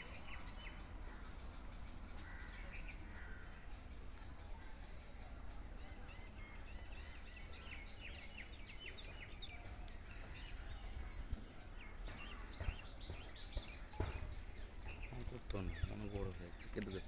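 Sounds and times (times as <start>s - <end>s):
birds chirping: 0.0s - 17.0s
high insect drone: 0.0s - 17.0s.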